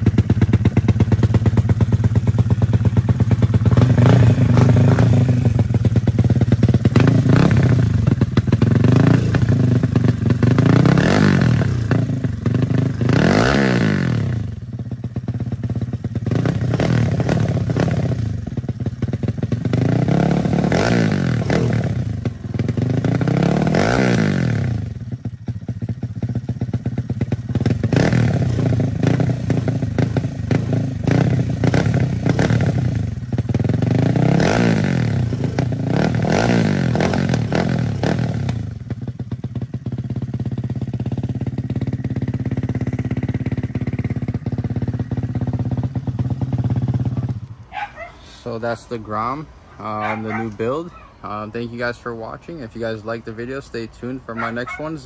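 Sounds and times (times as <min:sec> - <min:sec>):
motorcycle engine revving and idling: 0:00.0 - 0:55.0.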